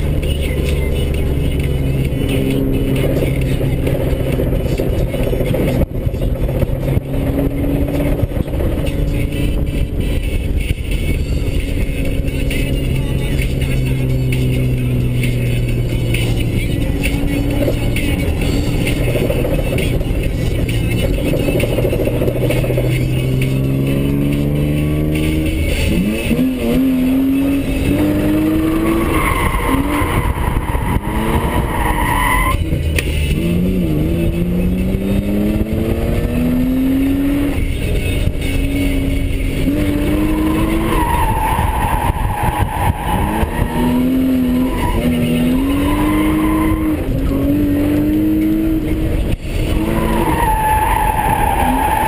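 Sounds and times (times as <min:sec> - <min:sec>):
car engine revving: 0:00.0 - 0:52.0
tires squealing: 0:00.0 - 0:52.0.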